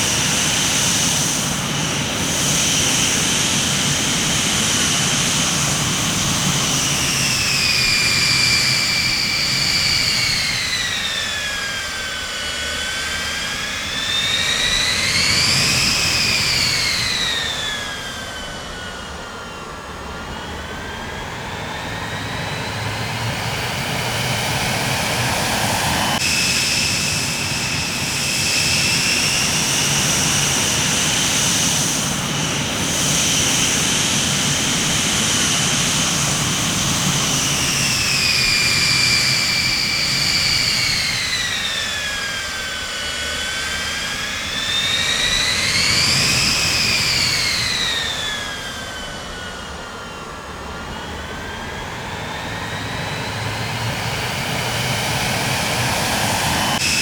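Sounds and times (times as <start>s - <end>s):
jet engine turbine whine: 0.0s - 57.0s.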